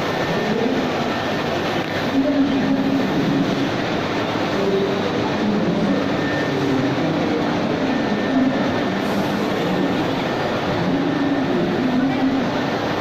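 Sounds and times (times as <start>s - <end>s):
printing machine running: 0.0s - 13.0s.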